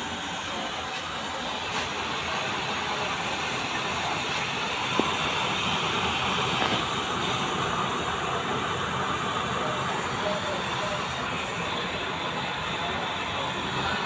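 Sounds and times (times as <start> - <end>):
oil burner flame rushing: 0.0 - 14.0.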